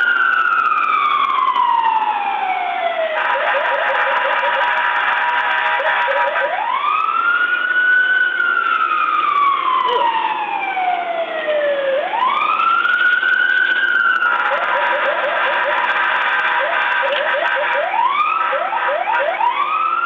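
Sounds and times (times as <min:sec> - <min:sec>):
police siren wailing: 0:00.0 - 0:20.0
road and engine noise: 0:00.0 - 0:20.0.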